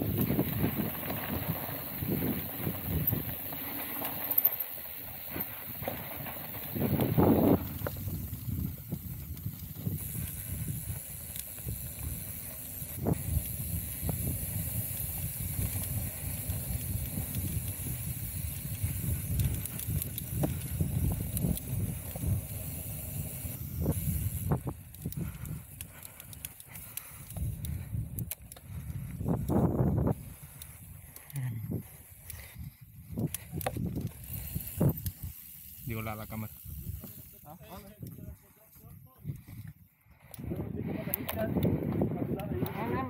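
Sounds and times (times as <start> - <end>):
bike tyres rumbling on dirt: 0.0 - 37.4.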